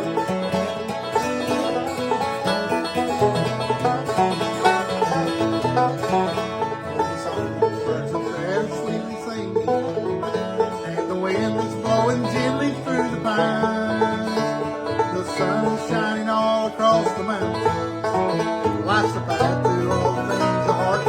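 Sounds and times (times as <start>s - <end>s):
banjo: 0.0s - 21.0s
guitar: 0.0s - 21.0s.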